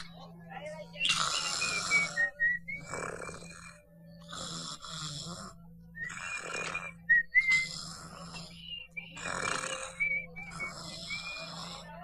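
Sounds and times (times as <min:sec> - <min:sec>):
man snoring with whistle: 0:01.0 - 0:12.0.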